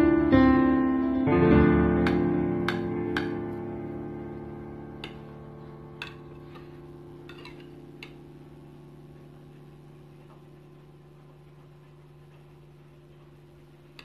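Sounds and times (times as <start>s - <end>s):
background music chord: 0.0s - 14.0s.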